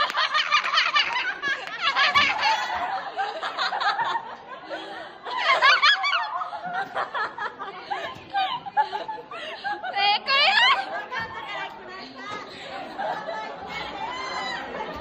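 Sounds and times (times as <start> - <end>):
people laughing and giggling: 0.0 - 15.0.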